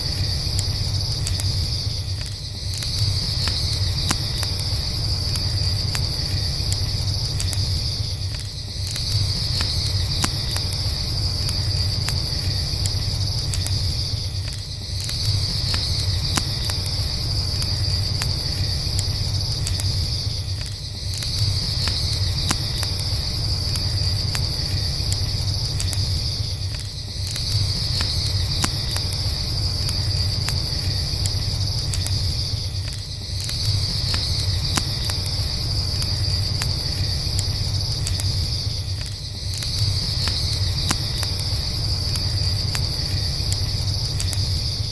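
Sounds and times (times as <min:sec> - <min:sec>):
campfire crackling and popping: 0:00.0 - 0:44.9
crickets chirring: 0:00.0 - 0:44.9.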